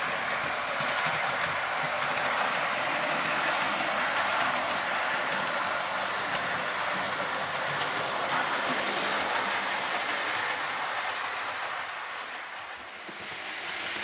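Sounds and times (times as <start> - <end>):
model train rolling on rails: 0.0 - 14.0.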